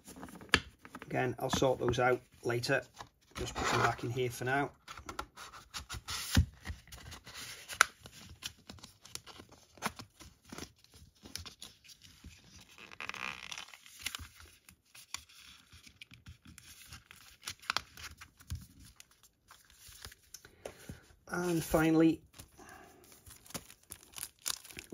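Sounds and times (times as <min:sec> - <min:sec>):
cards and packaging rustling: 0:00.0 - 0:24.9.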